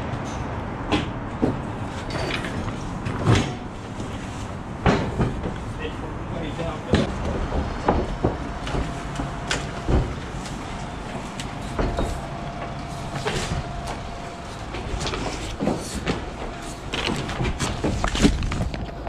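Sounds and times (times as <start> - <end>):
metal scaffolding knocks and rattles: 0.4 - 5.7, 6.9 - 19.0.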